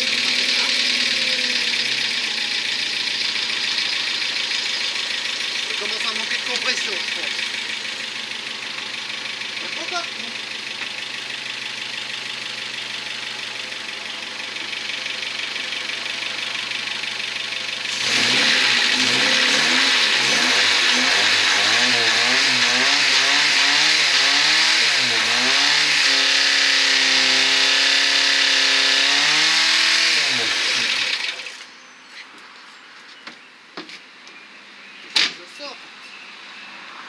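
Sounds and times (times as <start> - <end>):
car engine idling and revving: 0.0 - 32.6.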